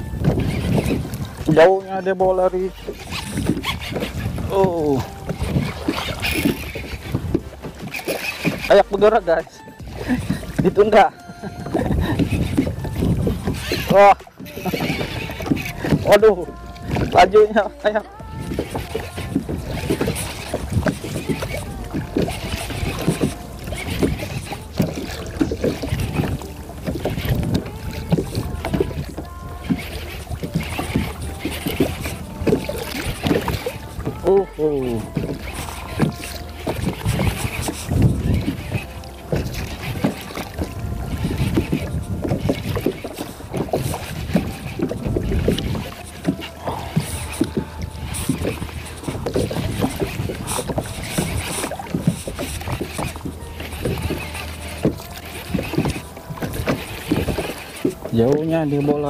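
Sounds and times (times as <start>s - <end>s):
water splashing against kayak hull: 0.0s - 59.0s
wind rumbling on microphone: 0.0s - 59.0s.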